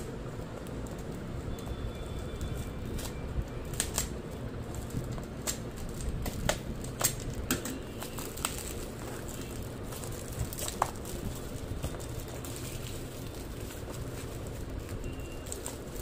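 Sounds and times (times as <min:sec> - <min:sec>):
low background noise: 0:00.0 - 0:16.0
plastic bag crinkling: 0:00.1 - 0:16.0.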